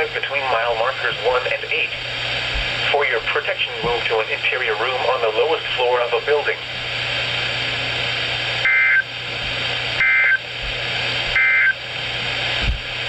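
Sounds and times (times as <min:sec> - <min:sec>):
broadcast hiss: 0:00.0 - 0:13.0.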